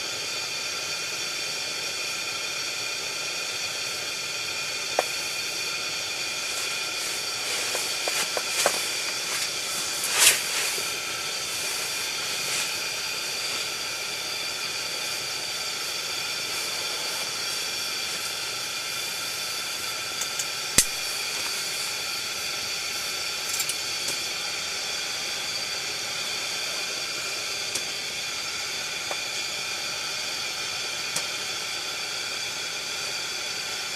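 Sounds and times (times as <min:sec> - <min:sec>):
pressure lantern hissing: 0:00.0 - 0:33.9.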